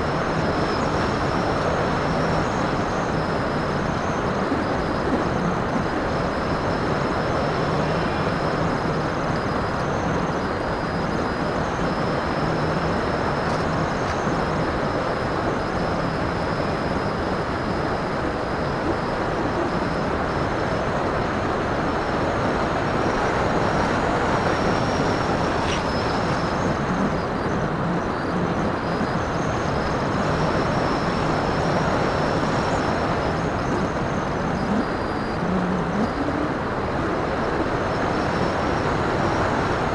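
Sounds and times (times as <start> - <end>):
thin high whine: 0.0 - 39.9
wind rushing over microphone: 0.0 - 39.9.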